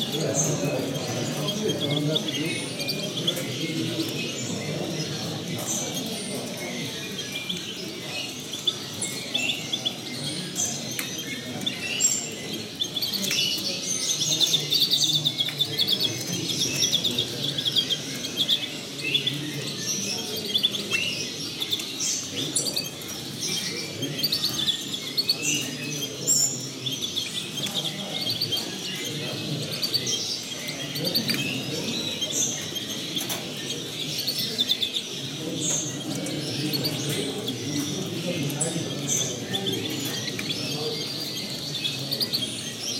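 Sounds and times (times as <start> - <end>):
finches chirping and trilling: 0.0 - 42.9
low background murmur: 0.0 - 42.9.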